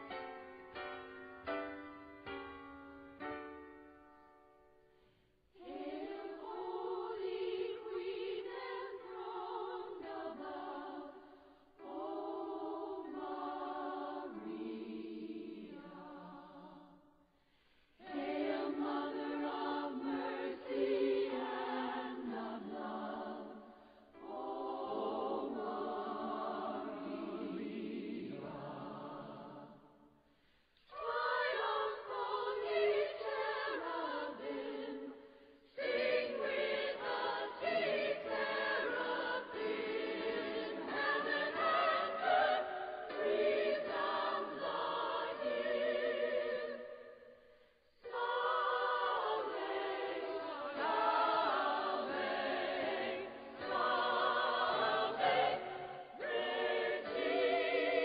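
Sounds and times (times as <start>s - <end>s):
choir singing a cappella: 4.7s - 58.0s.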